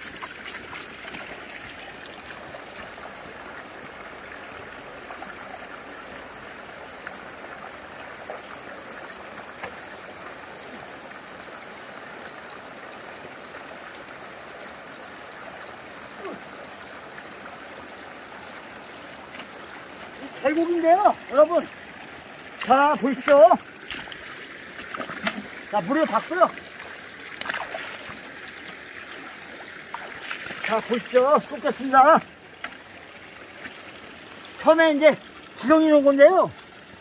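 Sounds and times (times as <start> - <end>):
stream running over rocks: 0.0 - 37.0.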